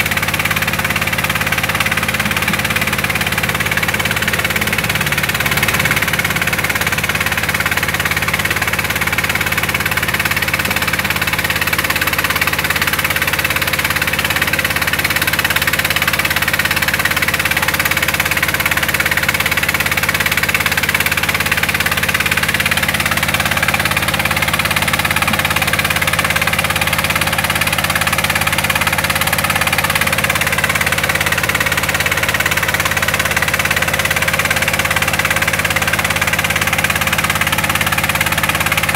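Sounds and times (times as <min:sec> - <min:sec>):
engine drone: 0:00.0 - 0:38.9.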